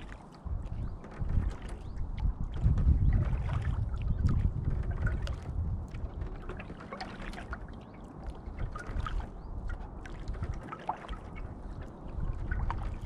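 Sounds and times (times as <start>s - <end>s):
small splashes and drips: 0.0s - 13.0s
water lapping against canoe hull: 0.0s - 13.0s
wind rumble on microphone: 0.0s - 13.0s.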